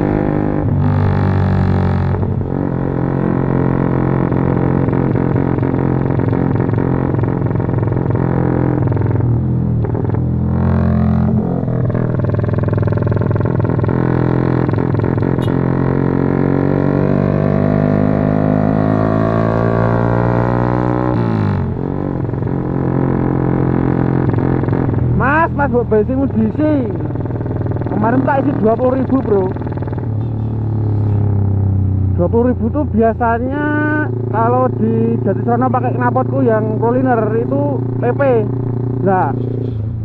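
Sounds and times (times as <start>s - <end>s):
motorcycle exhaust revving: 0.0s - 40.0s.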